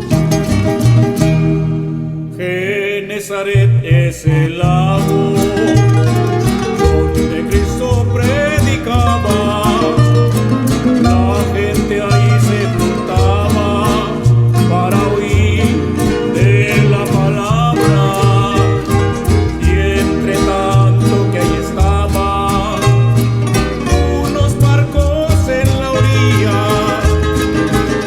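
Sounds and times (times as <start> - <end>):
string melody: 0.0 - 2.4, 3.8 - 28.0
plucked bass line: 0.0 - 2.7, 3.5 - 28.0
guitars playing: 0.0 - 28.0.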